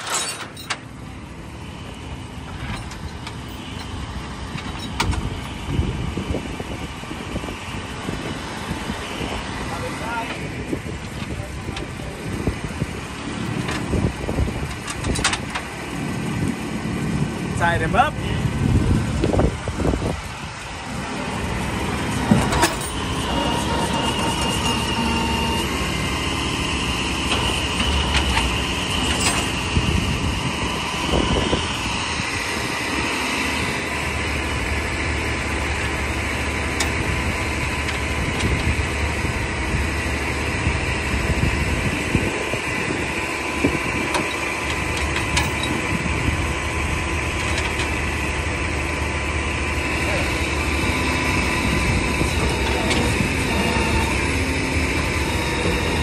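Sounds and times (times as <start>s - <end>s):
high whine: 0.0s - 56.0s
truck engine running: 0.0s - 56.0s.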